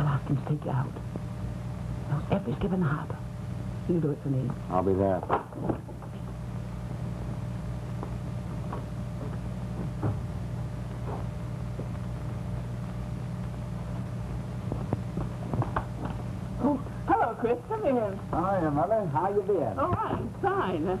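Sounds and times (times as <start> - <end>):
film soundtrack hum: 0.0 - 21.0.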